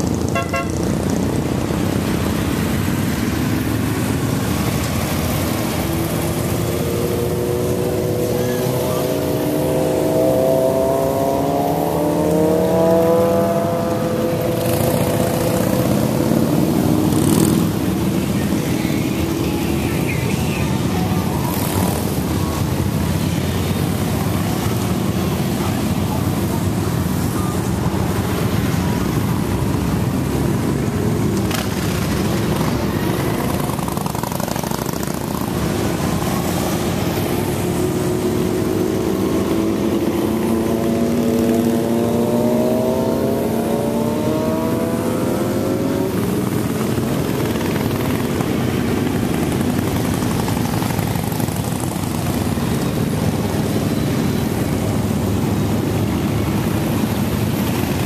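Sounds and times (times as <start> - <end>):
motorcycle accelerating: 0.0 - 58.0
motorcycles riding past: 0.0 - 58.0.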